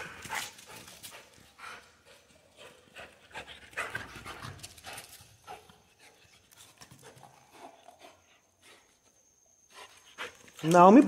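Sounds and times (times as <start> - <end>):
dog panting: 0.0 - 10.9.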